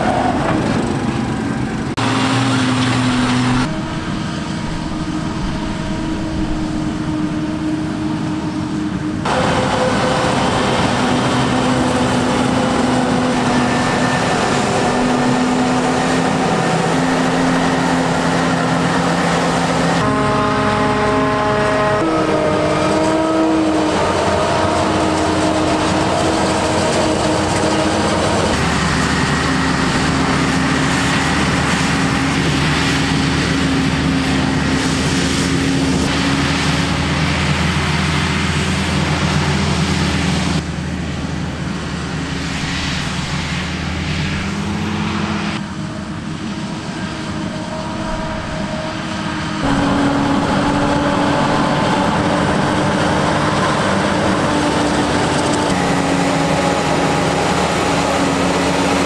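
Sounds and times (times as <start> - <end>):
heavy engines and machinery running: 0.0 - 59.0.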